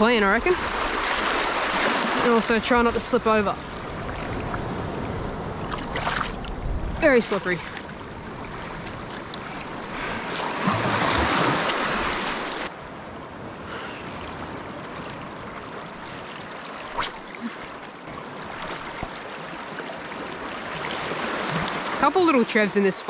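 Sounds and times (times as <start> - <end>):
waves washing on shore: 0.0 - 23.0.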